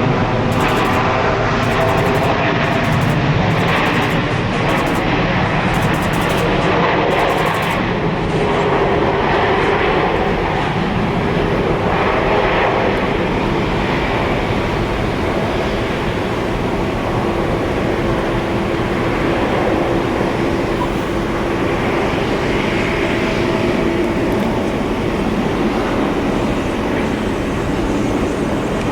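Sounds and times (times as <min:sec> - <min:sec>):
faint steady tones: 0:00.0 - 0:28.9
jet engines running: 0:00.0 - 0:28.9.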